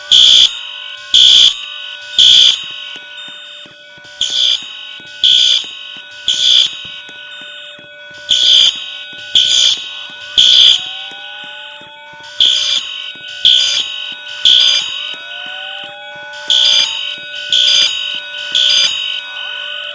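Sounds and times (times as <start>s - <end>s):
fire alarm beeping: 0.0s - 19.9s.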